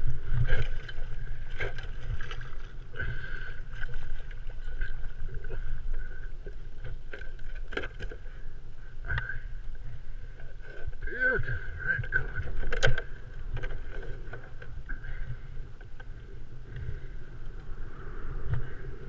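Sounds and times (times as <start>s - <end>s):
faint high hum: 0.0s - 19.0s
wind rumble on microphone: 0.0s - 19.0s.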